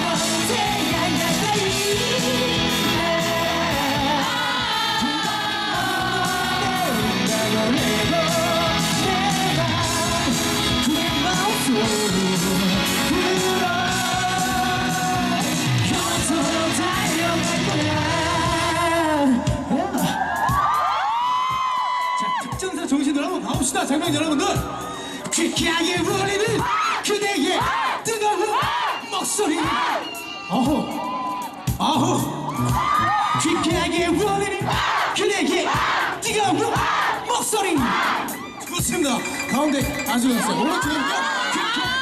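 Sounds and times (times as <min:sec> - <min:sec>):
man singing lead vocal: 0:00.0 - 0:20.2, 0:22.2 - 0:31.0, 0:31.8 - 0:42.0
pop-rock band playing: 0:00.0 - 0:42.0.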